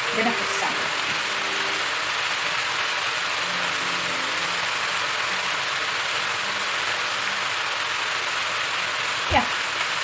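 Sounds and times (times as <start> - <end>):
potatoes sizzling in frying pan: 0.0 - 10.0.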